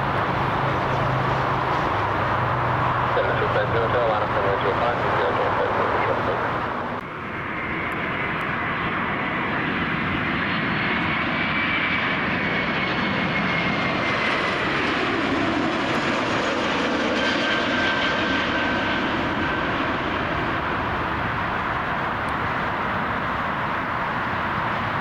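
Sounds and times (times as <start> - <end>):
jet engines passing: 0.0 - 25.0.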